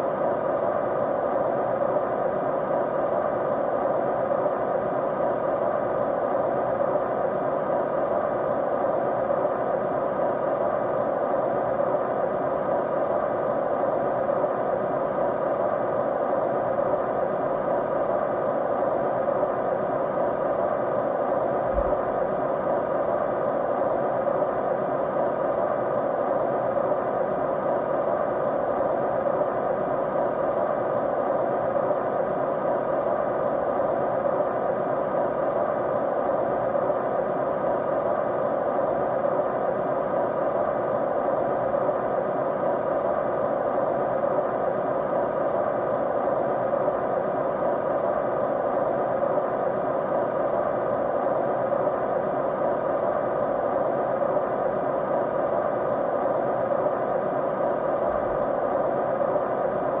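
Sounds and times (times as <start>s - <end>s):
steady white noise: 0.0s - 60.0s.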